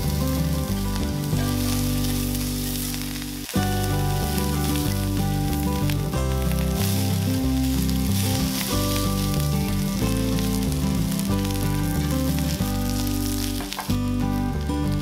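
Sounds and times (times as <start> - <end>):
background music with low notes: 0.0 - 15.0
vegetables sizzling in oil: 0.0 - 15.0.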